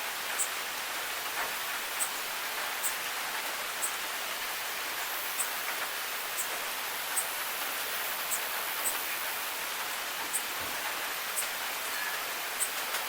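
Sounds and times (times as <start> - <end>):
rain hiss: 0.0 - 13.0.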